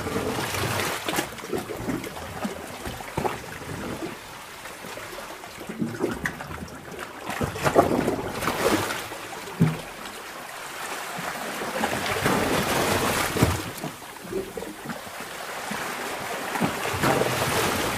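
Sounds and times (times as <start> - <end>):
water gurgling: 0.0 - 17.9
water surging and sloshing: 0.0 - 17.9.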